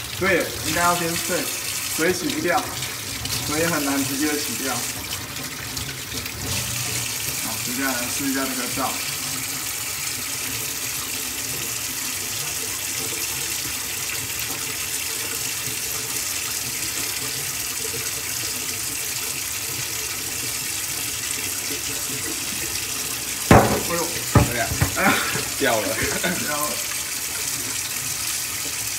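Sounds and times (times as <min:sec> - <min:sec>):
hands being washed with soap: 0:00.0 - 0:28.9
tap water running into sink: 0:00.0 - 0:28.9.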